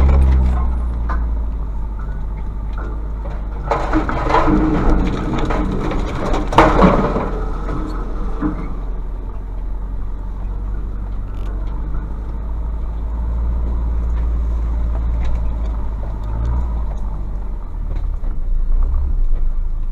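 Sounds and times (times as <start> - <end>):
branches scraping against truck: 0.0 - 1.4, 2.0 - 19.5
diesel engine droning: 0.0 - 19.9.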